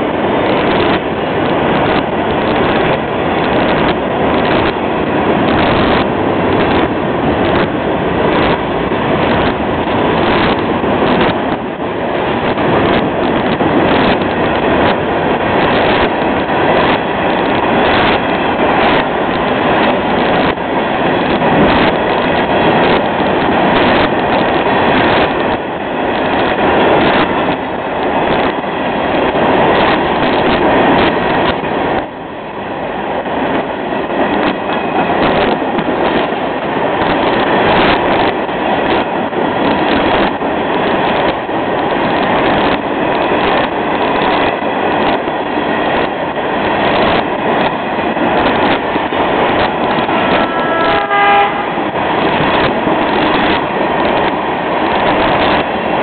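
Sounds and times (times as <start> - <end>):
freight train wheels rumbling: 0.0 - 56.0
wheels clacking over rail joints: 0.0 - 56.0.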